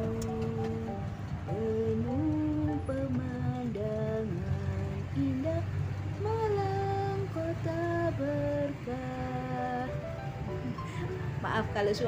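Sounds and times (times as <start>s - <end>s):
woman singing slow melody: 0.0s - 10.0s
car engine and road noise drone: 0.0s - 12.0s.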